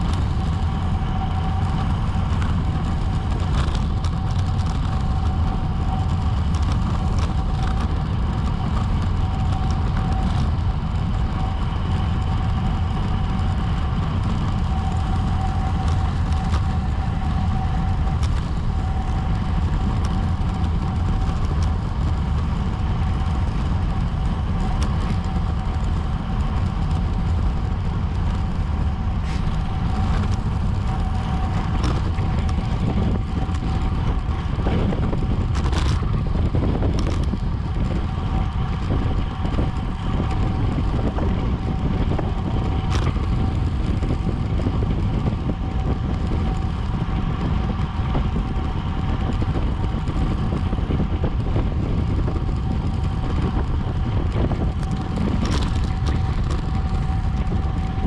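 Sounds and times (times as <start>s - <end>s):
faint steady whine: 0.0s - 58.0s
wind rumble on microphone: 0.0s - 58.0s.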